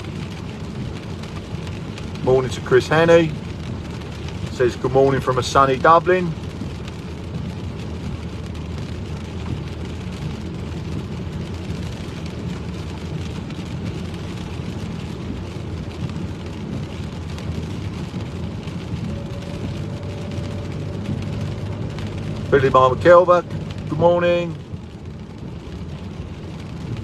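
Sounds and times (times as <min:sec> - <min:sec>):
car engine and tyre noise: 0:00.0 - 0:27.0
rain falling on car: 0:00.0 - 0:27.0.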